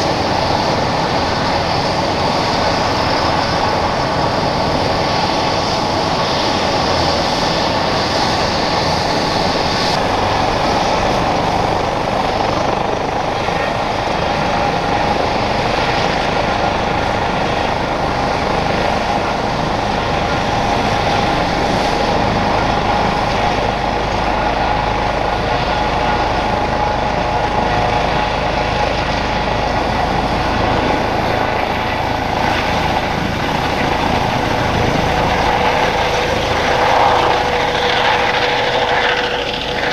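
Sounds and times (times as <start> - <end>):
helicopter engine whine: 0.0 - 39.9
helicopter rotor rumble: 0.0 - 39.9.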